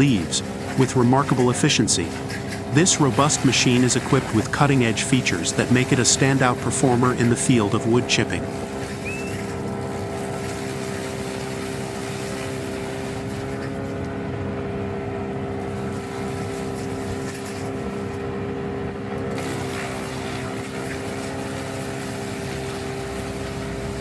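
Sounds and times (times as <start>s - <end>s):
wood chipper engine running: 0.0s - 24.0s.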